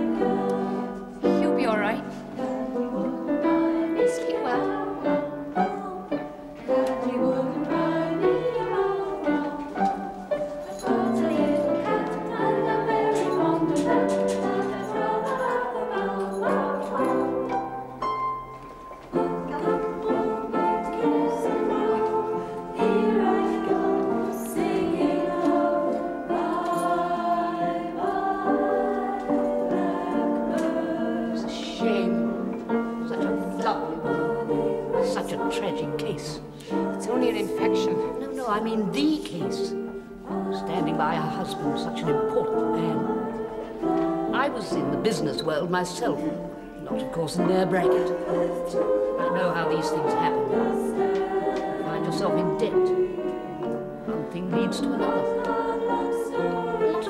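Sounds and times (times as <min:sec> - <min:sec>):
women singing in chorus: 0:00.0 - 0:17.9, 0:19.1 - 0:45.3, 0:46.0 - 0:57.0.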